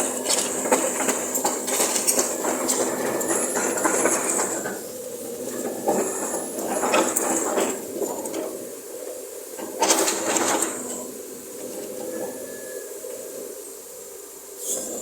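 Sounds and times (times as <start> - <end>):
excavator engine hum: 0.0 - 12.9.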